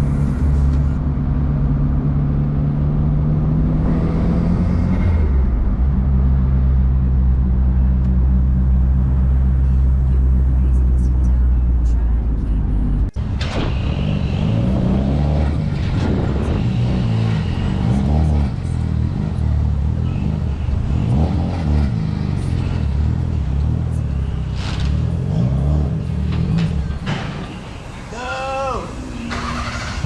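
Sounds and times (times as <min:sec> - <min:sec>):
car engine revving: 0:00.0 - 0:28.0, 0:28.8 - 0:30.0.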